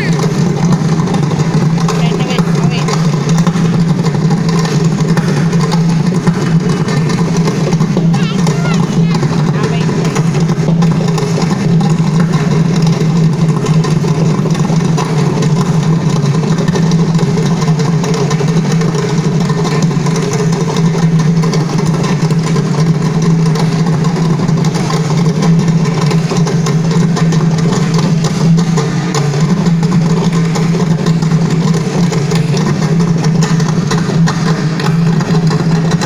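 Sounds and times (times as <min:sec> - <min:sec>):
steady low drone: 0:00.0 - 0:36.0.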